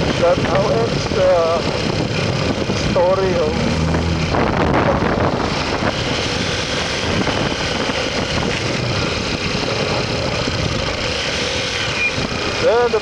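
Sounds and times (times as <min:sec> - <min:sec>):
motorcycle engine: 0:00.0 - 0:13.0
wind rushing over microphone: 0:00.0 - 0:13.0.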